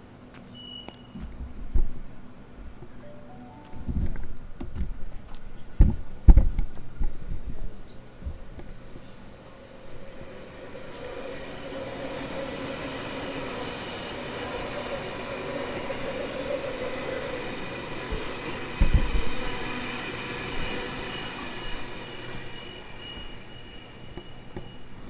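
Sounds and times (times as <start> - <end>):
electric train running past: 0.0 - 25.0
train whine: 0.0 - 25.0.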